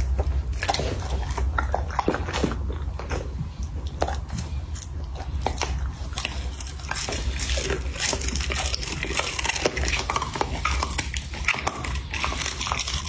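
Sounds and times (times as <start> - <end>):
dog chewing bone: 0.0 - 13.0.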